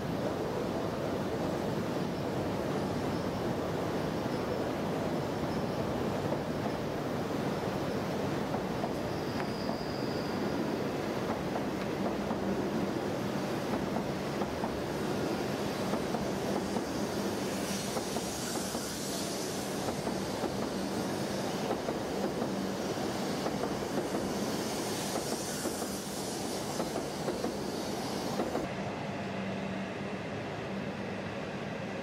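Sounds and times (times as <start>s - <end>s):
low train hum: 0.0s - 32.0s
train wheels rushing on rail: 0.0s - 32.0s.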